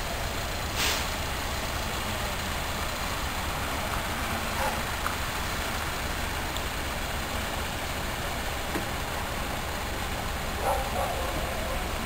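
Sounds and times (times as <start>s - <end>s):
heavy vehicle engines rumbling: 0.0s - 12.0s.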